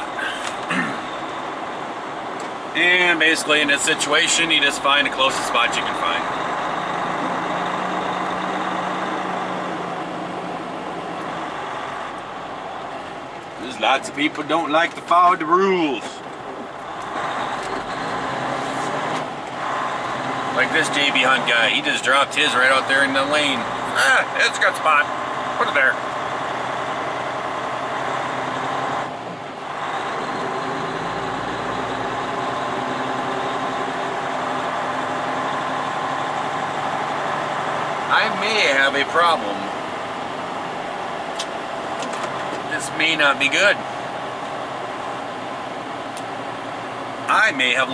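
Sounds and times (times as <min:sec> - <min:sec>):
truck diesel engine running: 0:00.0 - 0:47.9.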